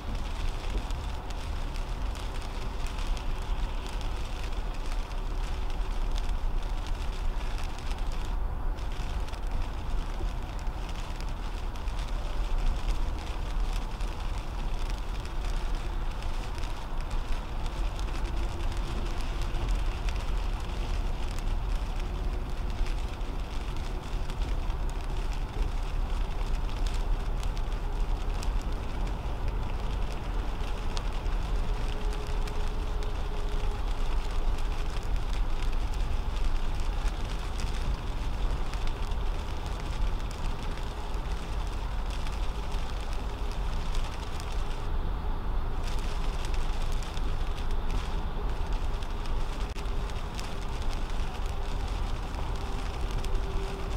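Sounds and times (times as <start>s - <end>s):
car road noise rumble: 0.0s - 53.9s
rain spattering on windshield: 0.0s - 53.9s
tyre hiss on wet road: 0.0s - 53.9s.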